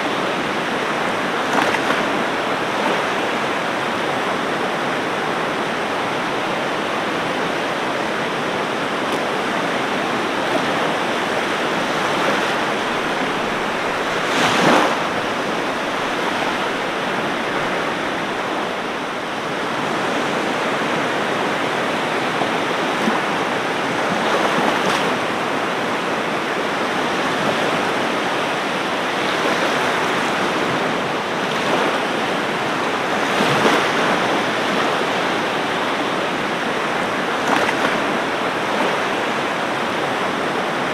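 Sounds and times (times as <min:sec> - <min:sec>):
waves breaking: 0:00.0 - 0:40.9
waves washing on a beach: 0:00.0 - 0:40.9.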